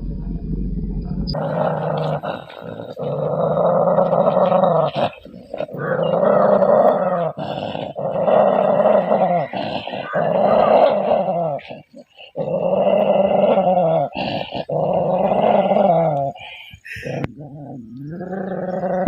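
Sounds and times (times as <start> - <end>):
dog growling and snarling: 1.3 - 19.0.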